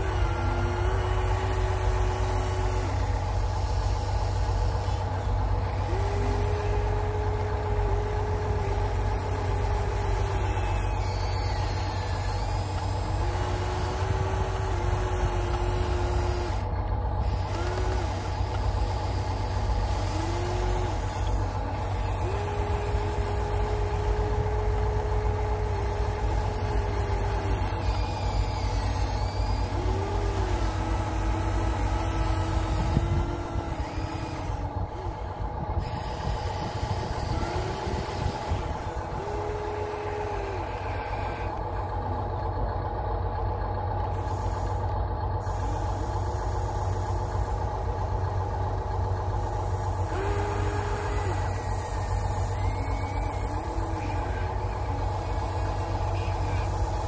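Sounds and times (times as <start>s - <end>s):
small electric motors whining: 0.0s - 42.6s, 43.5s - 57.0s
low engine-like drone: 0.0s - 57.0s.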